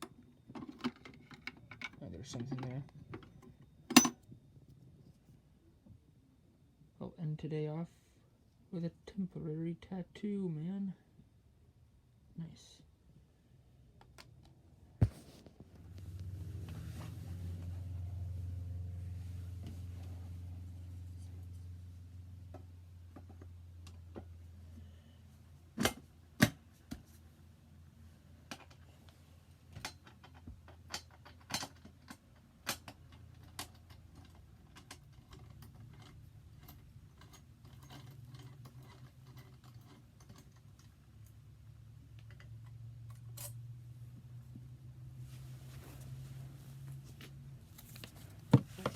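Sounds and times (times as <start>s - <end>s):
low steady hum: 0.0s - 48.9s.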